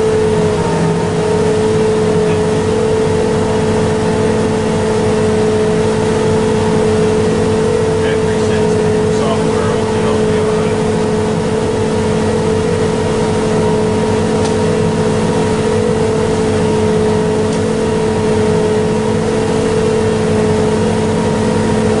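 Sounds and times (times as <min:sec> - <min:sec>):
machinery engine drone: 0:00.0 - 0:22.0
steady machine whine: 0:00.0 - 0:22.0.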